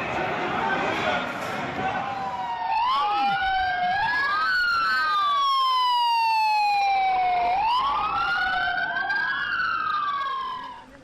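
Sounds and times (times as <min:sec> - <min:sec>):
emergency sirens wailing: 0:00.0 - 0:11.0.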